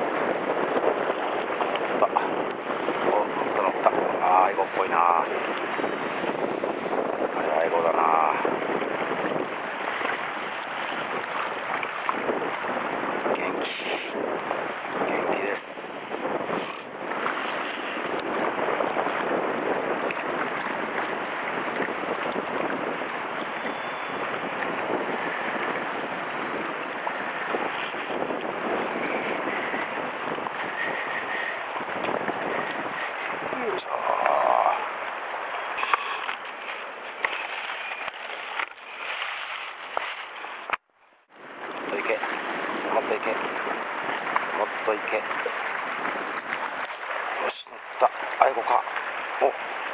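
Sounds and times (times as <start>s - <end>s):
sea water washing against rocks: 0.0s - 49.9s.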